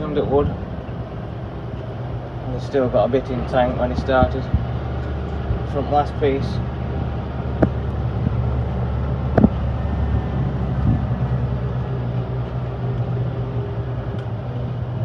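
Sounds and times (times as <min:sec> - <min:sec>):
tractor and combine engines: 0:00.0 - 0:15.0.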